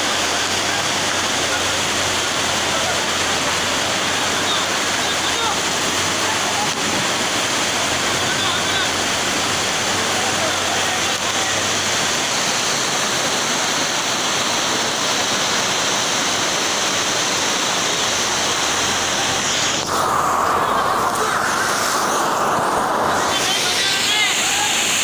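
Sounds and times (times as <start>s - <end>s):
floodwater rushing: 0.0s - 25.0s
heavy rain: 0.0s - 25.0s.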